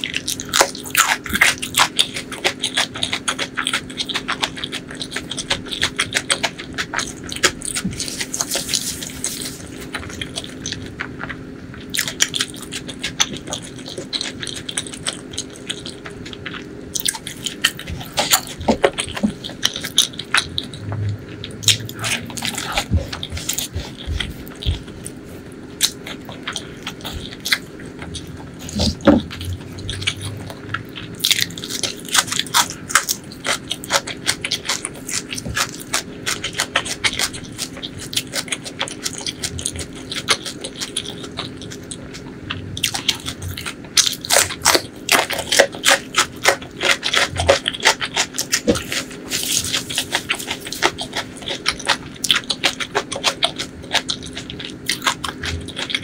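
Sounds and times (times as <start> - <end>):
close chewing with mouth clicks: 0.0 - 56.0
faint steady hum: 0.0 - 56.0.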